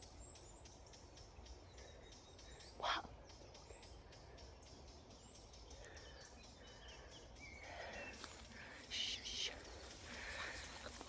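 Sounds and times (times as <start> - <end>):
distant birds chirping: 0.0 - 11.0.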